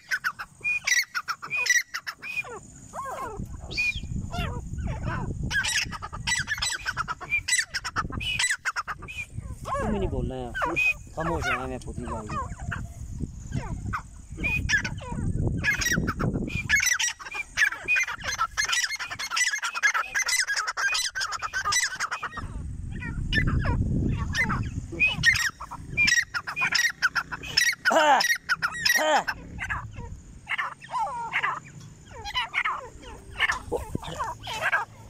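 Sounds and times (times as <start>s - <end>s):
birds calling in harsh high notes: 0.0s - 35.0s.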